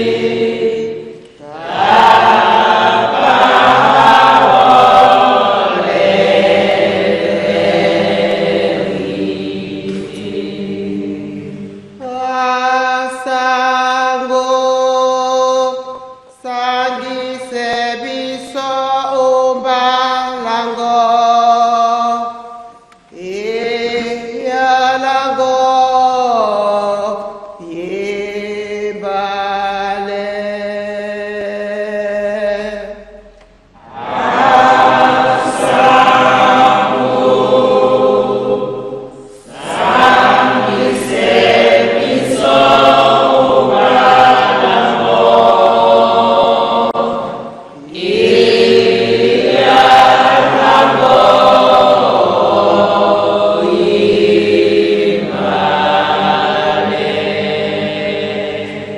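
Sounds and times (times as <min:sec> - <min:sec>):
choir singing a hymn: 0:00.0 - 0:58.9.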